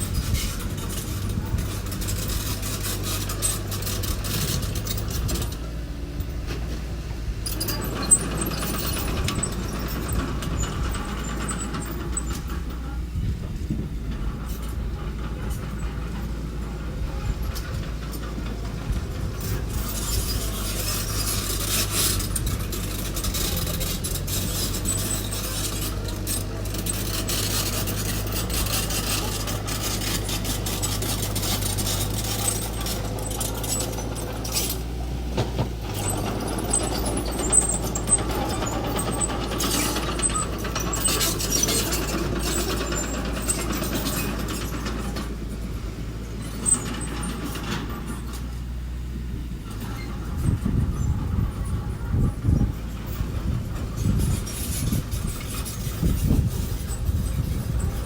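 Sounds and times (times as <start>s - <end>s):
bulldozer engine running: 0.0s - 58.0s
metallic clanking and rattling: 0.0s - 58.0s.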